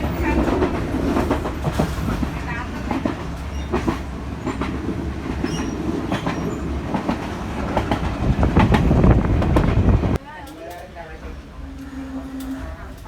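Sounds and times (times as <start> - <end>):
train carriage rumble: 0.0 - 13.0
wheels clacking over rail joints: 0.0 - 13.0.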